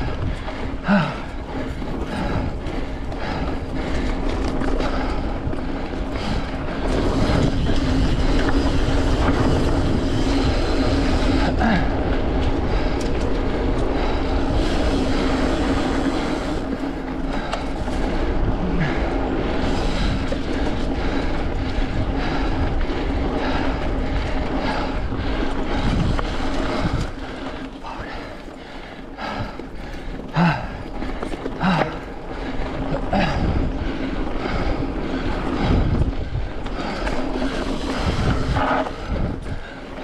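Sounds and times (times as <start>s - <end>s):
bike rattling over rough ground: 0.0s - 40.0s
tyre rumble: 0.0s - 40.0s
wind rush on microphone: 0.0s - 40.0s.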